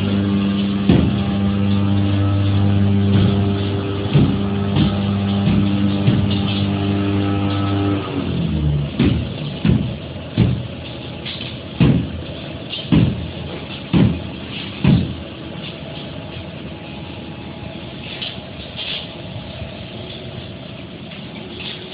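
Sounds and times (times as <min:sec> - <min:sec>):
low thumps: 0:00.0 - 0:18.9
machinery droning tone: 0:00.0 - 0:21.9
steady rumble: 0:00.0 - 0:21.9.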